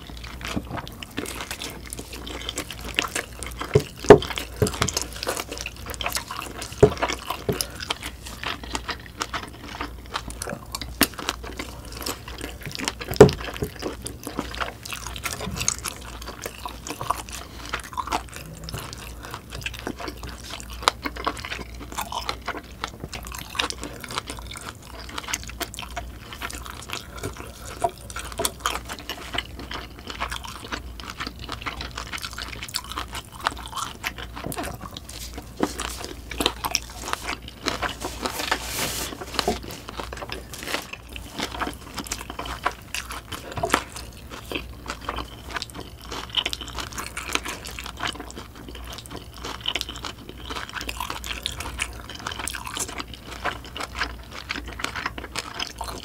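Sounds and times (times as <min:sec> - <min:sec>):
person chewing and biting: 0:00.0 - 0:56.0.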